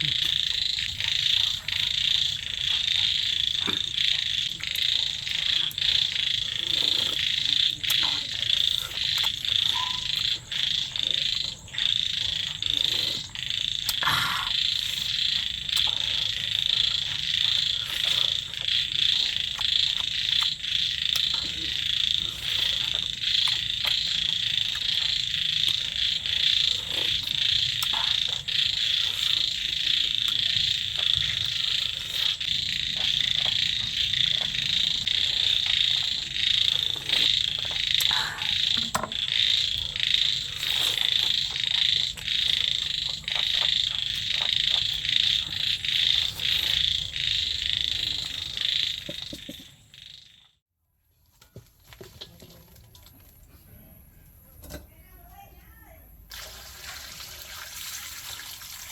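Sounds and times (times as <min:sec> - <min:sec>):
frogs calling: 0:00.0 - 0:50.6.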